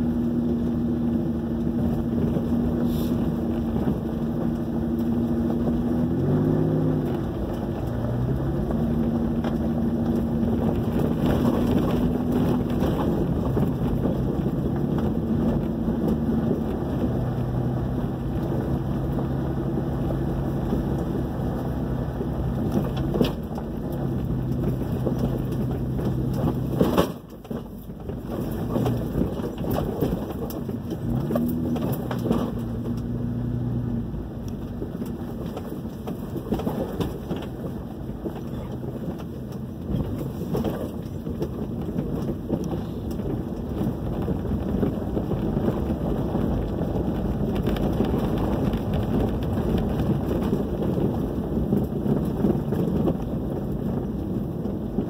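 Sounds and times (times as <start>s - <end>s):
rattles and knocks from body: 0.0s - 55.0s
truck engine running: 0.0s - 55.0s.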